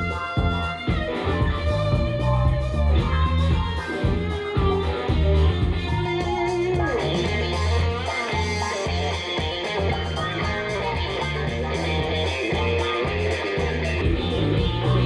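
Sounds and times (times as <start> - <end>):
guitar music with strong bass: 0.0 - 15.0.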